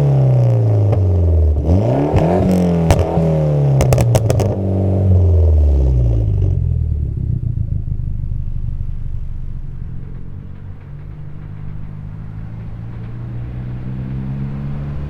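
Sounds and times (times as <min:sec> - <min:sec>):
car engine revs dropping: 0:00.0 - 0:15.0
exhaust pops: 0:00.3 - 0:15.0.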